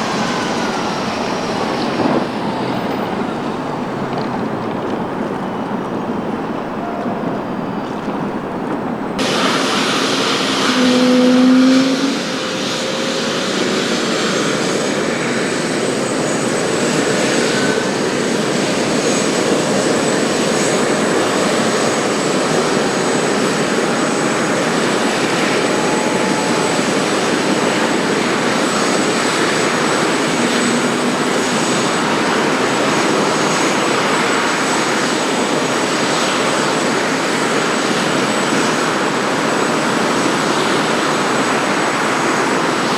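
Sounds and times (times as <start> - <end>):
helicopter engines and rotor: 0.0 - 42.9
high turbine whine: 0.0 - 42.9.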